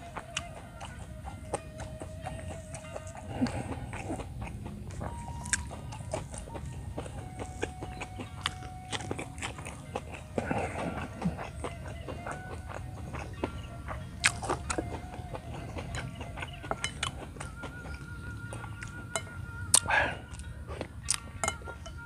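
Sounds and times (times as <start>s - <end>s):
person chewing food: 0.0s - 22.0s
mouth clicks and smacks: 0.1s - 18.0s.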